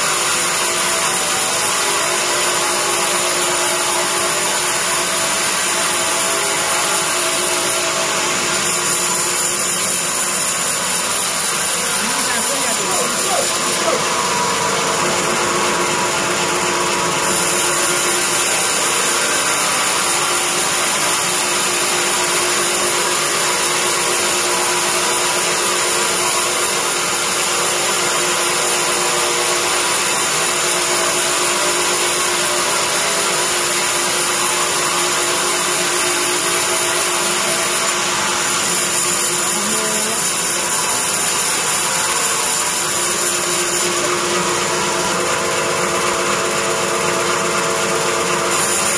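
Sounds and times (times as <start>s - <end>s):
bandsaw mill sawing wood: 0.0s - 48.9s.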